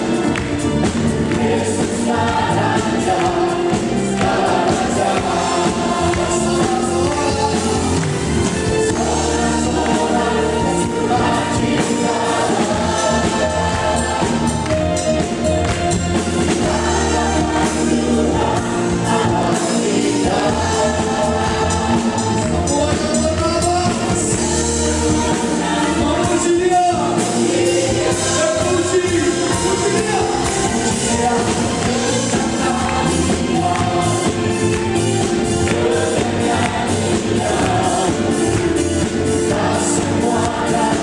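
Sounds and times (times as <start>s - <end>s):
group of voices singing: 0.0s - 41.0s
keyboards and drum kit playing: 0.0s - 41.0s.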